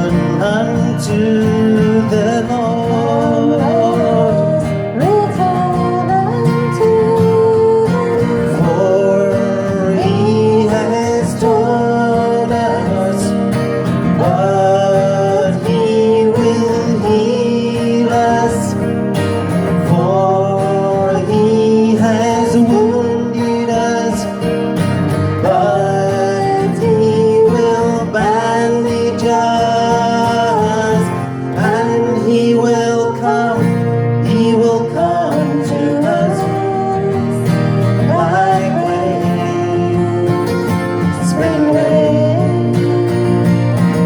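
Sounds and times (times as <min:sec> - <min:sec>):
worship song led by guitar: 0:00.0 - 0:44.0.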